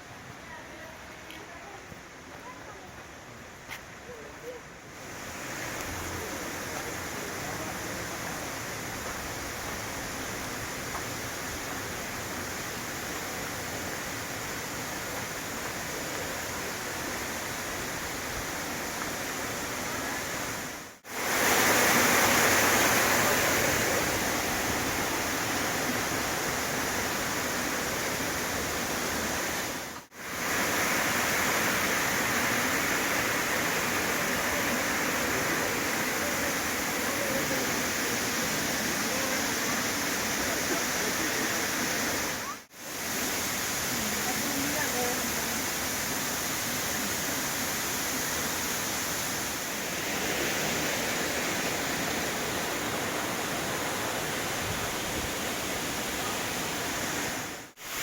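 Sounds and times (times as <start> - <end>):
waterfall rushing: 1.8 - 58.0.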